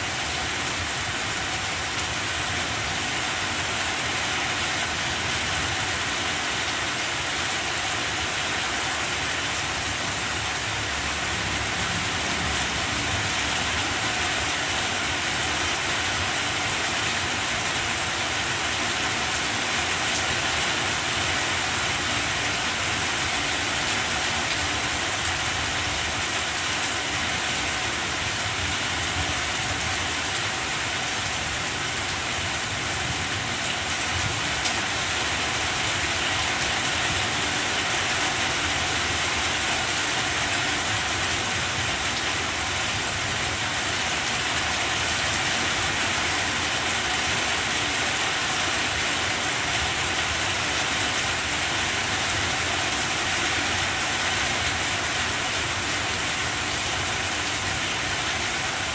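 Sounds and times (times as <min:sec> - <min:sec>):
heavy rain on plant leaves: 0:00.0 - 0:58.9.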